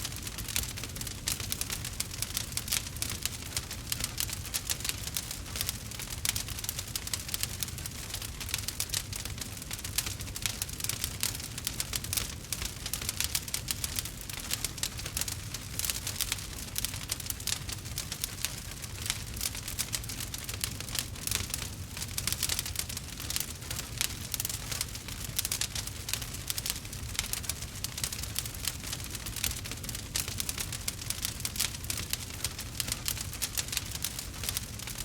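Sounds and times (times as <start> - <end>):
low fire rumble: 0.0 - 35.0
wood fire crackling and popping: 0.0 - 35.0.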